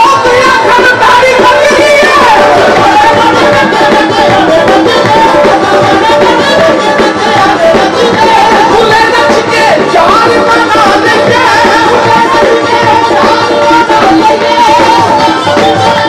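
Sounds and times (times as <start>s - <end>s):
harmonium: 0.0s - 16.0s
person singing: 0.0s - 16.0s
tabla drumming: 0.0s - 16.0s.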